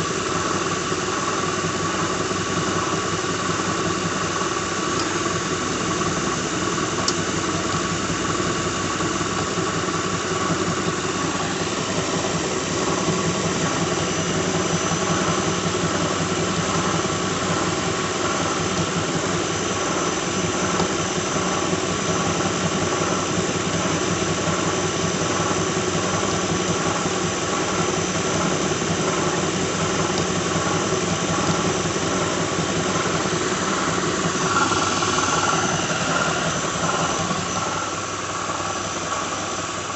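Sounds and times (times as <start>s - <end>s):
car engine running: 1.6s - 39.9s
whirring squeal from engine: 6.0s - 39.9s.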